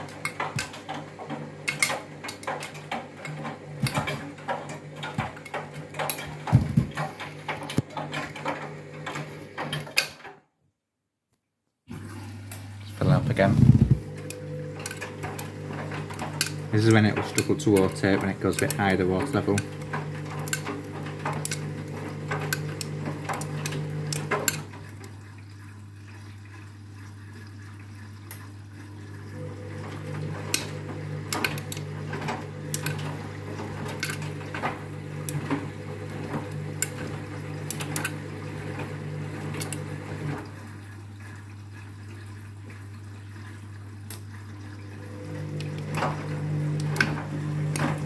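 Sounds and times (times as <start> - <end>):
washing machine motor hum: 0.0 - 10.4, 11.9 - 48.0.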